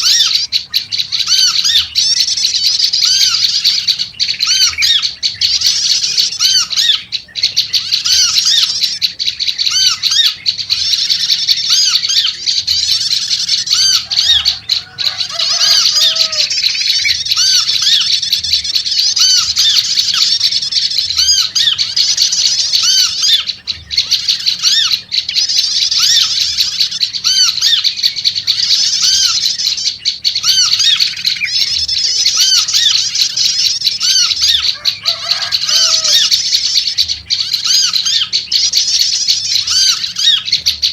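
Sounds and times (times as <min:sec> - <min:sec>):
bird warbling: 0:00.0 - 0:40.9
birds chattering: 0:00.0 - 0:40.9.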